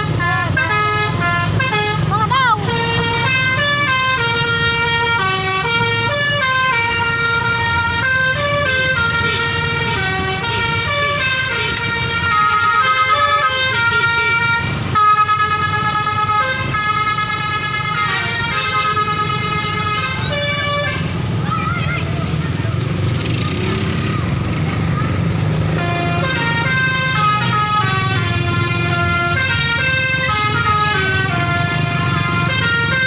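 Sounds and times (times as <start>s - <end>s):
multi-tone air horn melody: 0.0s - 21.2s, 25.7s - 33.0s
bus engine running: 0.0s - 33.0s.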